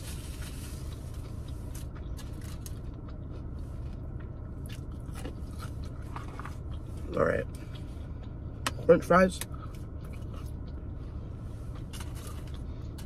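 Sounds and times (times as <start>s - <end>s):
steady low hum: 0.0s - 13.0s
person chewing: 0.3s - 8.7s, 9.4s - 13.0s.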